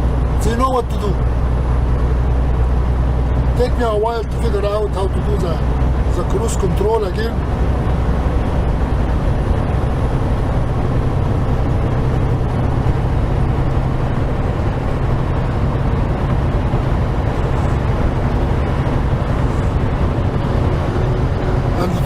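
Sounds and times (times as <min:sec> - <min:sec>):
diesel truck engine running: 0:00.0 - 0:22.0
road noise inside cab: 0:00.0 - 0:22.0.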